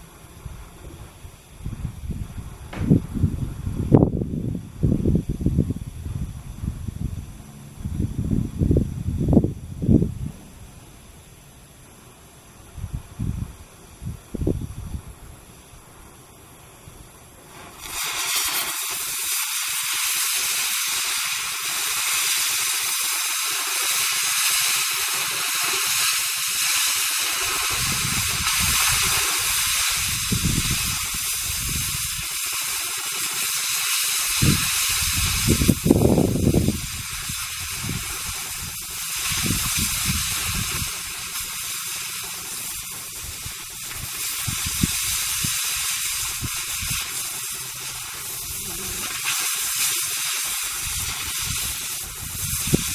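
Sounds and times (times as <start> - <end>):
low rumbling surges: 0.0 - 23.1, 26.6 - 32.8, 34.1 - 52.9
cutting torch hissing: 0.0 - 52.9.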